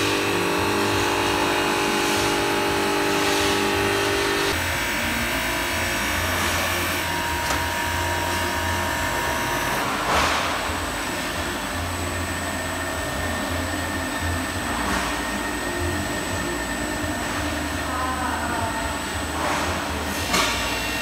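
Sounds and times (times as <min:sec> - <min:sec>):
machine humming and whirring: 0:00.0 - 0:21.0.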